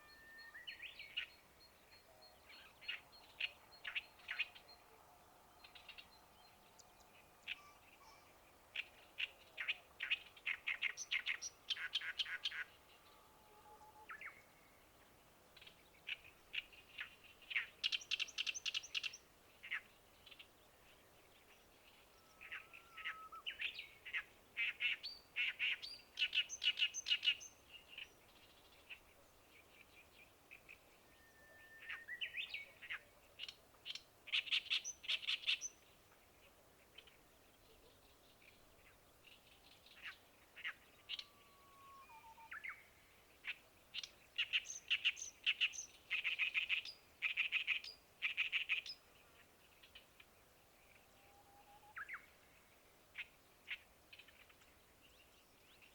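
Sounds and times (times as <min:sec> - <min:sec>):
songbird chattering song: 0:00.0 - 0:13.2, 0:13.9 - 0:55.9.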